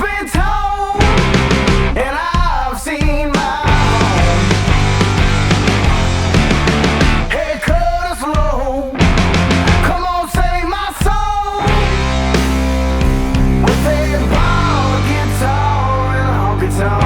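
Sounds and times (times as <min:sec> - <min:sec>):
country-rock song: 0:00.0 - 0:17.0.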